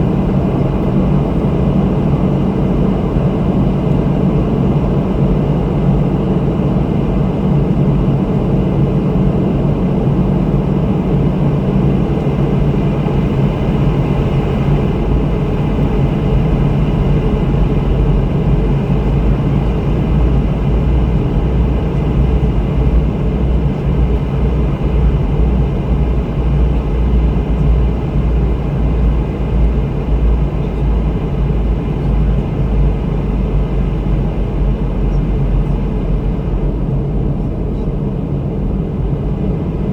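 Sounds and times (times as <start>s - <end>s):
low jet engine hum: 0.0s - 39.9s.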